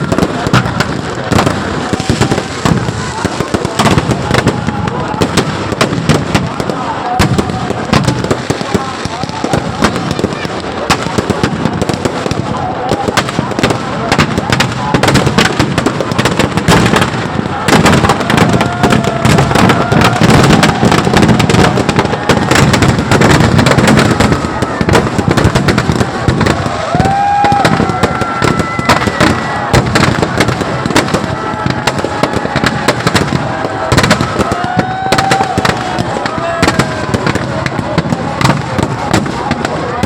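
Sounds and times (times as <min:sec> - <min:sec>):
firecrackers crackling: 0:00.0 - 0:40.0.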